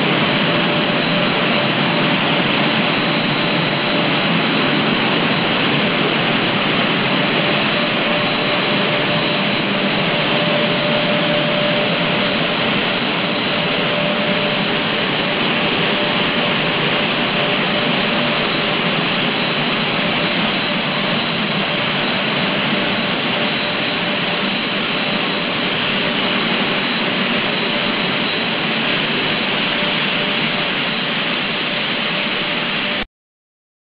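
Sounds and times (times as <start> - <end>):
blower air rushing: 0.0 - 33.0
machine whirring: 0.0 - 33.0.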